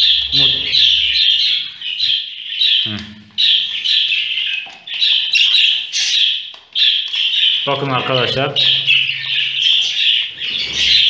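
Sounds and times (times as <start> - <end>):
budgerigar chicks raspy calls: 0.0 - 11.0.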